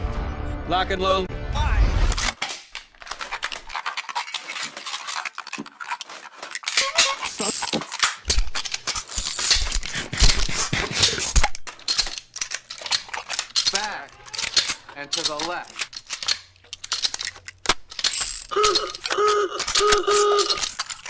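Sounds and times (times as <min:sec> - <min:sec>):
clicks and metallic clinks: 0:02.3 - 0:21.0.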